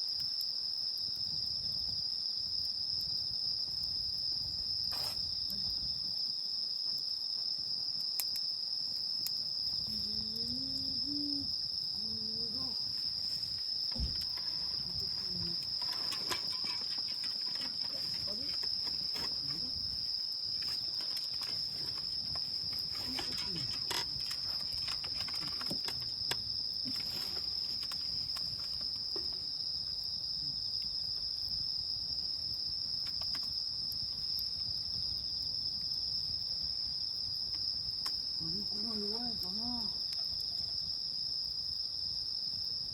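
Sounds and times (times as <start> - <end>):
campfire crackling and popping: 0.0 - 41.7
crickets chirring: 0.0 - 42.9.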